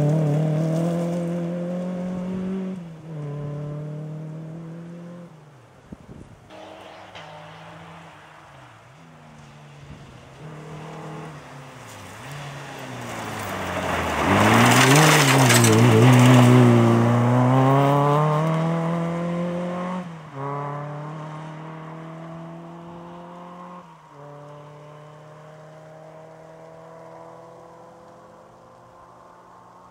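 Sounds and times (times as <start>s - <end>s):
rally car accelerating: 0.0s - 5.4s, 6.5s - 29.9s
tyre and road noise: 0.0s - 29.9s.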